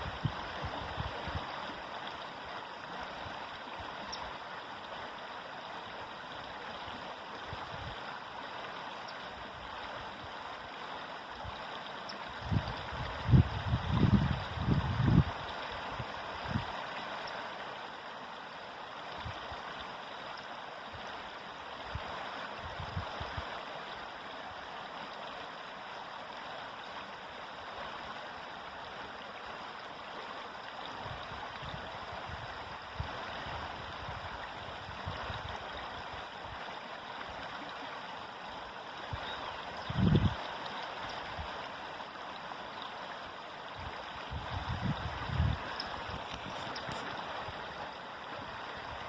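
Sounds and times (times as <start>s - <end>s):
river water rushing: 0.0s - 49.0s.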